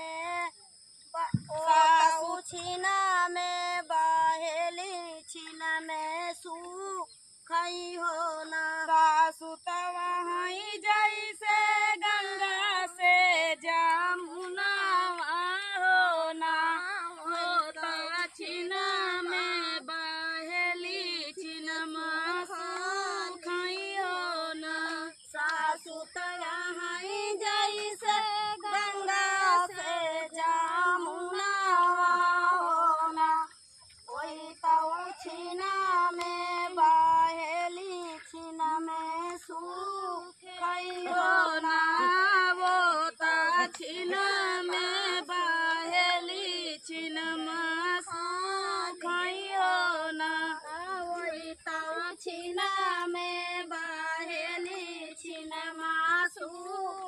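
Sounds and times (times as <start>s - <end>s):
woman singing unaccompanied folk song: 0.0s - 57.0s.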